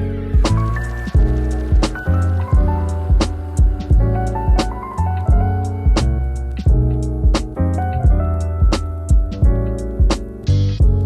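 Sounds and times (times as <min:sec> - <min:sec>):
background music: 0:00.0 - 0:11.0
steady drum beat: 0:00.3 - 0:11.0.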